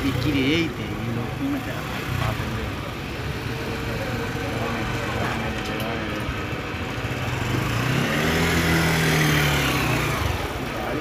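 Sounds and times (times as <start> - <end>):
motorcycle engine at low speed: 0.0 - 11.0.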